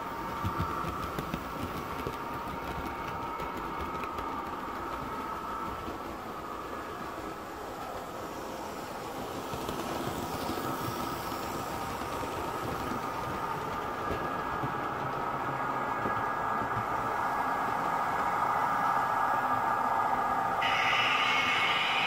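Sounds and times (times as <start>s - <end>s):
model trains whirring on track: 0.0s - 22.0s.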